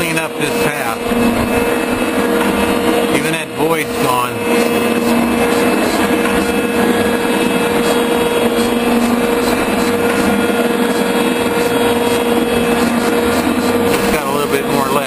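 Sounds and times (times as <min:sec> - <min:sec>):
machine tool motor hum: 0:00.0 - 0:15.0
metal machining noise: 0:00.0 - 0:15.0
steady whine: 0:00.0 - 0:15.0.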